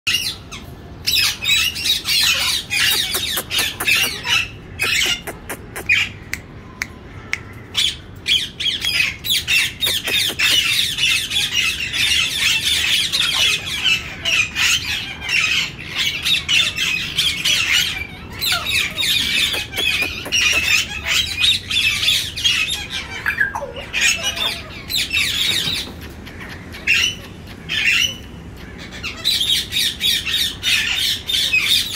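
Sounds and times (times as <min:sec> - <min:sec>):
parrots squawking: 0:00.1 - 0:31.9.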